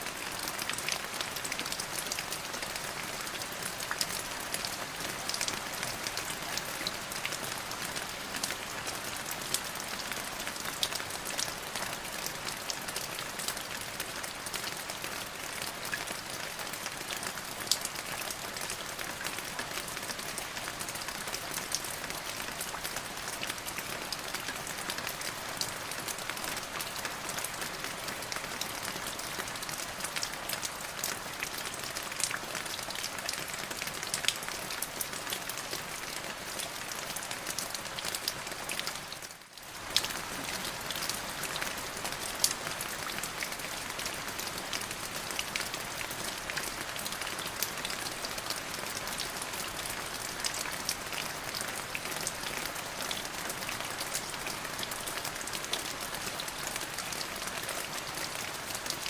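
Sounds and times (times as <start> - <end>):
steady rain with ticking drops: 0.0 - 59.0.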